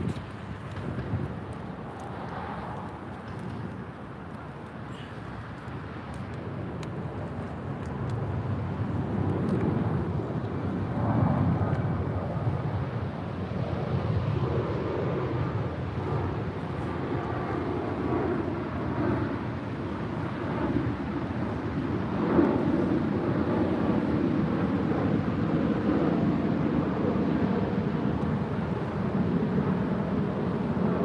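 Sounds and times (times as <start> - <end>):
distant engines rumbling: 0.0 - 25.1.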